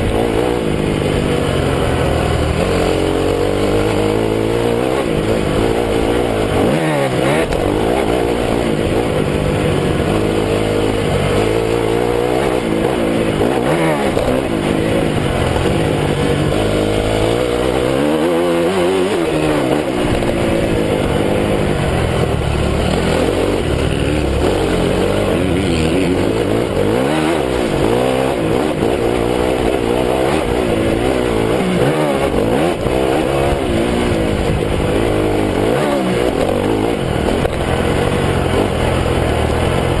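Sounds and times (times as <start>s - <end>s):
motocross engine revving: 0.0s - 40.0s.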